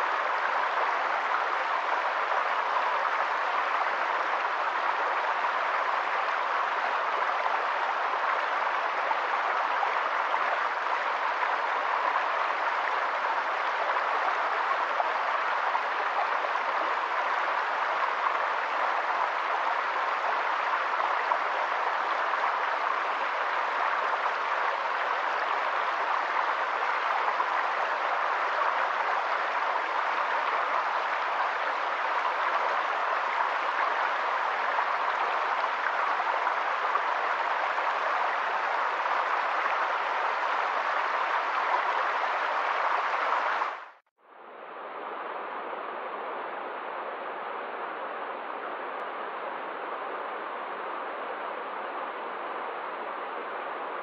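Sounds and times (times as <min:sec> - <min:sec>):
stream flowing over rocks: 0:00.0 - 0:44.0.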